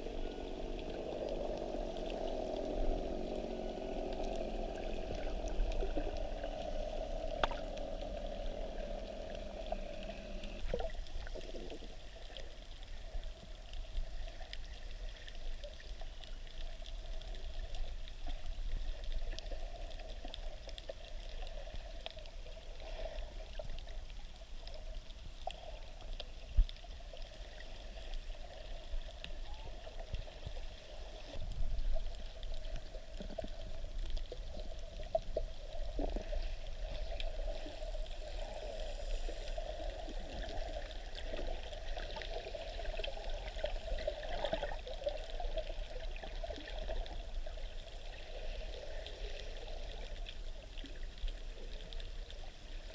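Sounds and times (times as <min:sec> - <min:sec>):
muffled underwater water wash: 0:00.0 - 0:52.9
small underwater clicks: 0:00.0 - 0:52.9.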